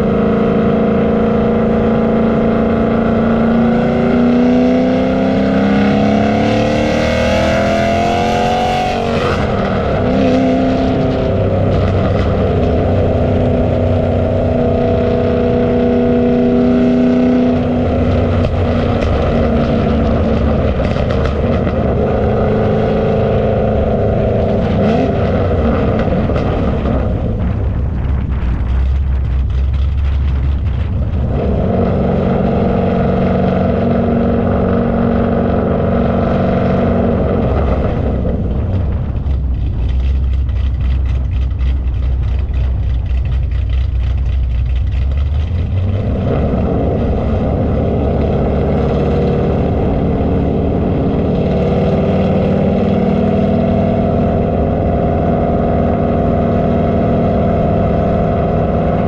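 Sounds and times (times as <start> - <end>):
car engine running: 0.0 - 59.0
steady droning tone: 0.0 - 59.0.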